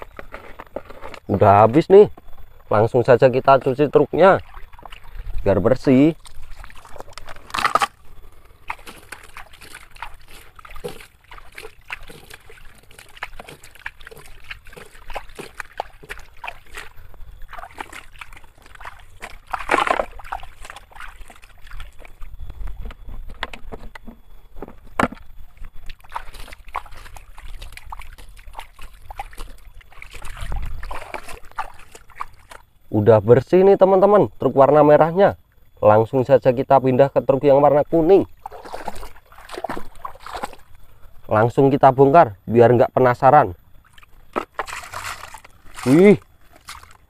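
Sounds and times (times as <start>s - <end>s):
water sloshing and splashing: 0.0s - 32.9s, 37.6s - 41.3s, 43.6s - 47.0s.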